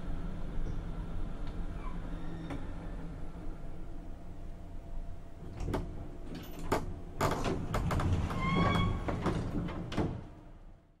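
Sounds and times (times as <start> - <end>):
elevator doors sliding: 0.1 - 3.7, 5.3 - 10.6.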